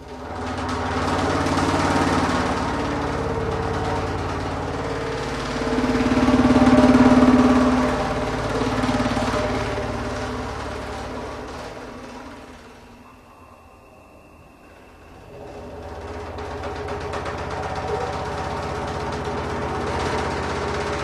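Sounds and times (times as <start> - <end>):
buzzing rattle of paper tops: 0.0 - 12.9, 15.3 - 21.0
steady tube tones: 0.0 - 21.0.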